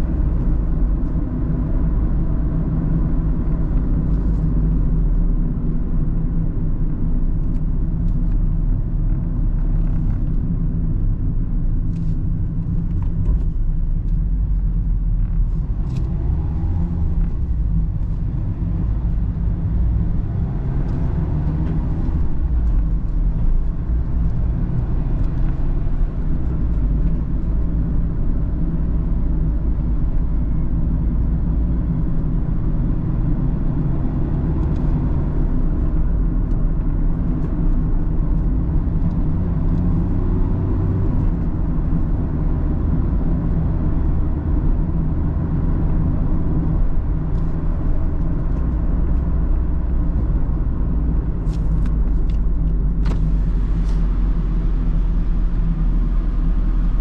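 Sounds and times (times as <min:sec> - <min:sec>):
car engine running: 0:00.0 - 0:57.0
low road rumble: 0:00.0 - 0:57.0.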